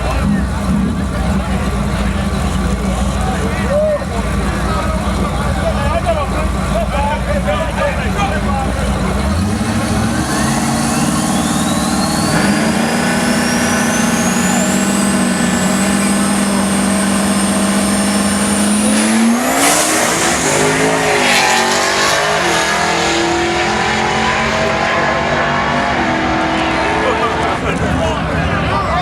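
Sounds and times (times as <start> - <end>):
pickup engine accelerating: 0.0 - 29.0.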